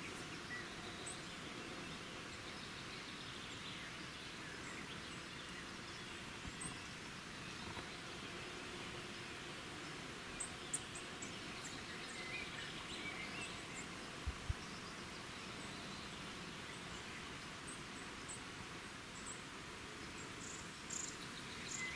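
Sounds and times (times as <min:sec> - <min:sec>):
small birds chirping: 0:00.0 - 0:21.9
steady background hiss: 0:00.0 - 0:21.9.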